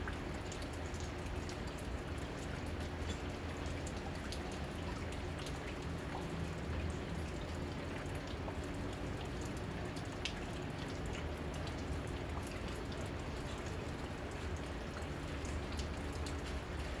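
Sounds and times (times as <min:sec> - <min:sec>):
steady rain falling: 0:00.0 - 0:17.0
water drops dripping: 0:00.0 - 0:17.0.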